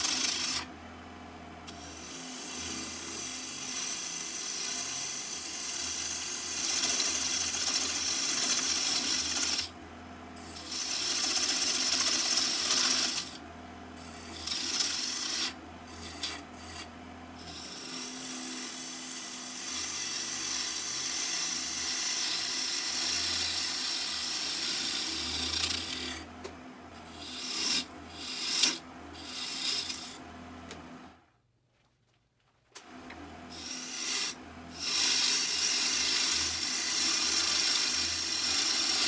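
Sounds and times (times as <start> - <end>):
lathe gouge scraping wood: 0.0 - 0.7, 1.7 - 9.7, 10.4 - 13.4, 14.0 - 26.3, 27.0 - 30.2, 33.6 - 39.0.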